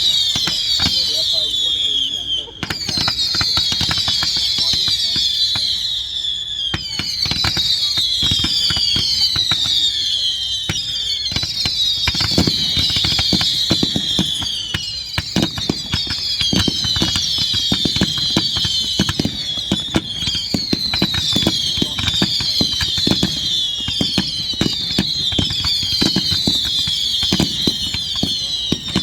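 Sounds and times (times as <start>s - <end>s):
falling firework whistles: 0.0s - 29.0s
fireworks bangs and crackles: 0.0s - 29.0s.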